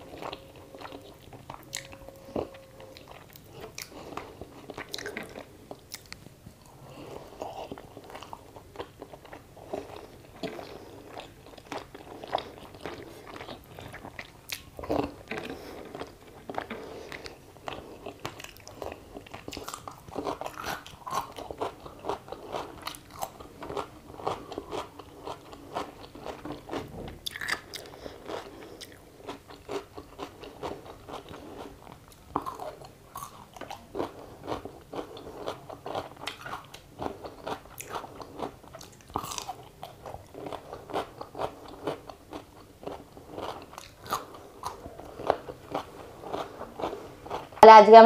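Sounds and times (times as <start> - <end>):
cucumber crunching while chewed: 7.3 - 47.6.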